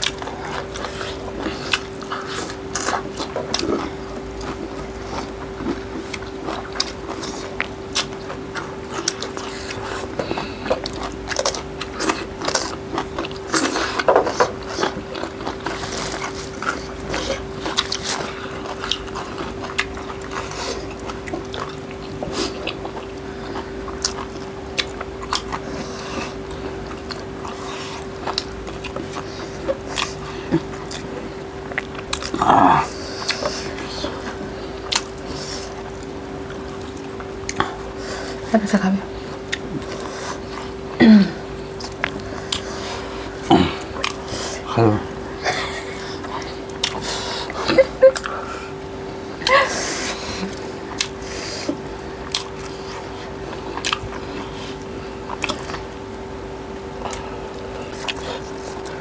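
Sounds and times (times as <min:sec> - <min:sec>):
people chewing and lip-smacking: 0:00.0 - 0:59.0
steady hum: 0:00.0 - 0:59.0.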